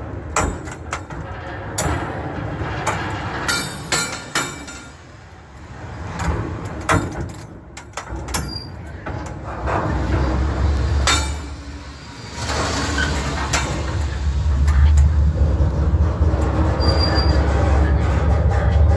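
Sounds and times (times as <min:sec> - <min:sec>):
freight train rumbling overhead: 0:00.0 - 0:18.9
sharp metallic clanks: 0:00.3 - 0:17.2.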